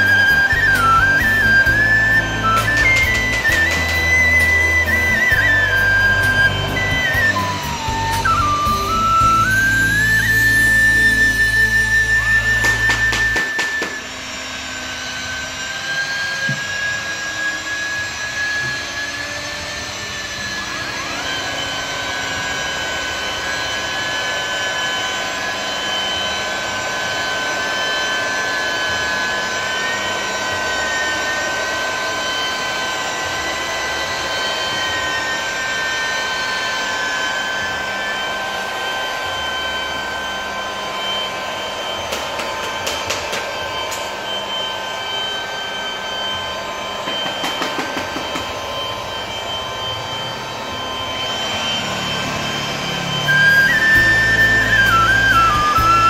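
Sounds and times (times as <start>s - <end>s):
electric polisher whine: 0.0s - 56.0s.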